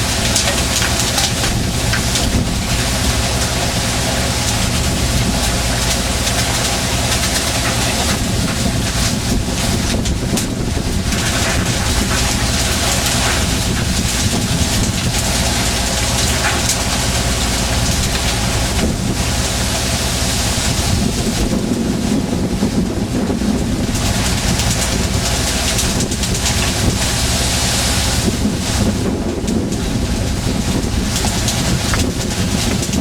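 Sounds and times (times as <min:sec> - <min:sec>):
boat diesel engine running: 0:00.0 - 0:33.0
heavy wind: 0:00.0 - 0:33.0
rushing sea water: 0:00.0 - 0:33.0.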